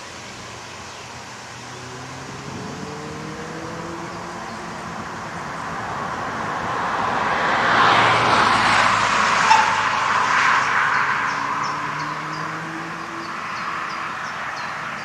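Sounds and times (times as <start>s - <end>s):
vehicle passing by: 1.2s - 15.0s.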